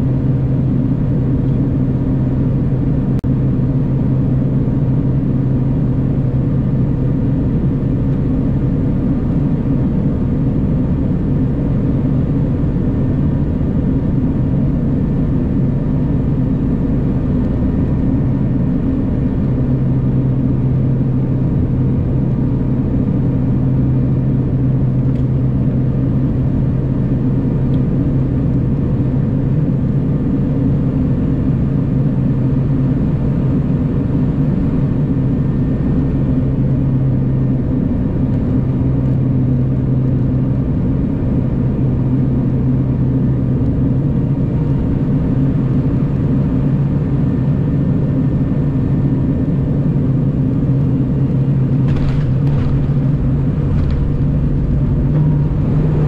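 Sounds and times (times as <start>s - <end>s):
turboprop cabin drone: 0.0s - 56.0s.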